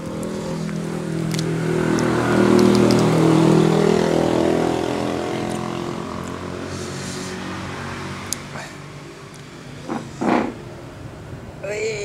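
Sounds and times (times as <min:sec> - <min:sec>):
vehicle engine passing by: 0:00.0 - 0:11.2.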